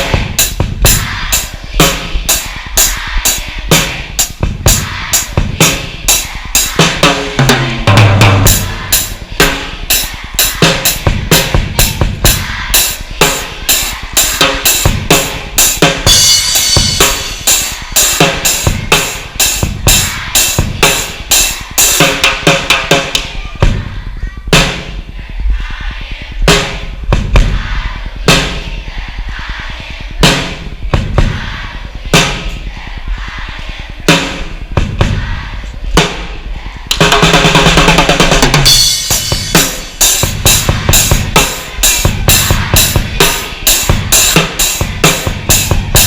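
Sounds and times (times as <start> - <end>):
fast drum-kit beat: 0.0 - 46.0.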